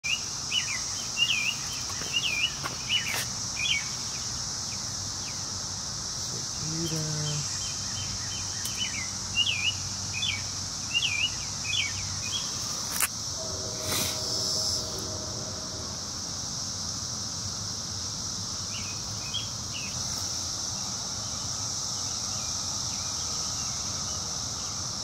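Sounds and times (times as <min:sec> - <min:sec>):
cicada chorus drone: 0:00.1 - 0:25.0.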